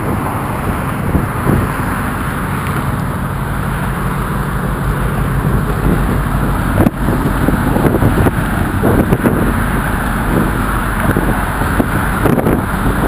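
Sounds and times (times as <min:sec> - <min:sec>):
road traffic rushing past: 0:00.0 - 0:13.0
wind buffeting microphone: 0:00.0 - 0:13.0.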